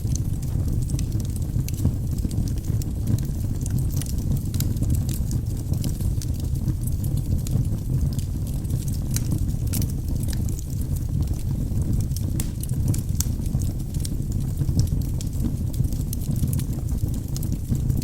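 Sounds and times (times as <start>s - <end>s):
burning wood crackling: 0.0s - 18.0s
fire flames rumbling: 0.0s - 18.0s.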